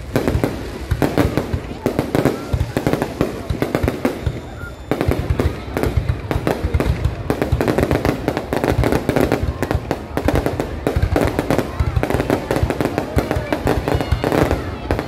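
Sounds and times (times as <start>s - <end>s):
fireworks bursts and bangs: 0.0s - 15.0s.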